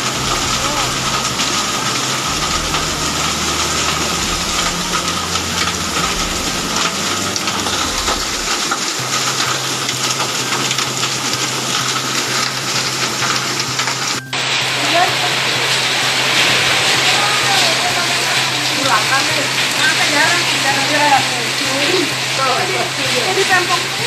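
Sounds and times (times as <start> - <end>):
hail ticking: 0.0 - 24.0
heavy rain hissing: 0.0 - 24.0.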